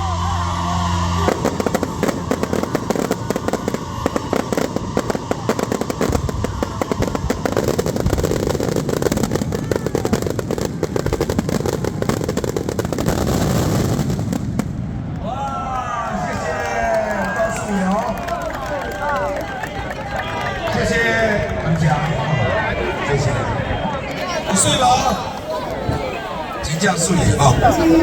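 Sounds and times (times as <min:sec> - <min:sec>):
fireworks crackling: 0:00.2 - 0:28.0.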